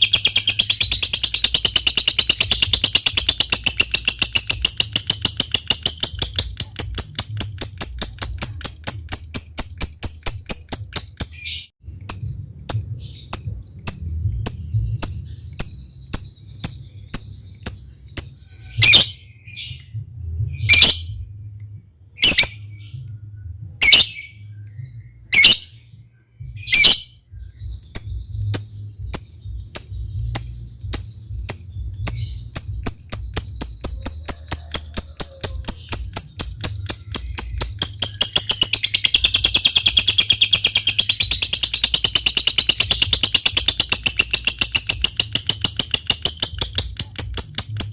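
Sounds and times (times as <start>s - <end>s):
lovebird ticking and trilling: 0.0s - 20.0s, 26.5s - 47.9s
low hum: 0.0s - 47.9s.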